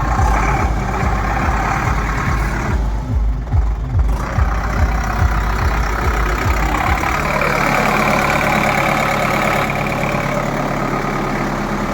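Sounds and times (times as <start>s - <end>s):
tractor diesel engine idling: 0.0s - 11.9s.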